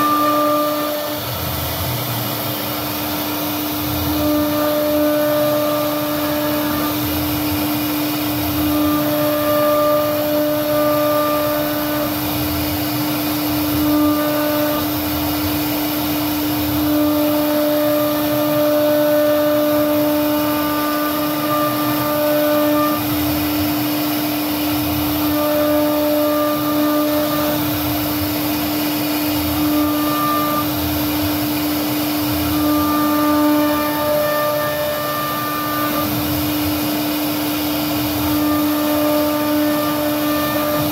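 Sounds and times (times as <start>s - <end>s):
router spindle high hum: 0.0s - 40.9s.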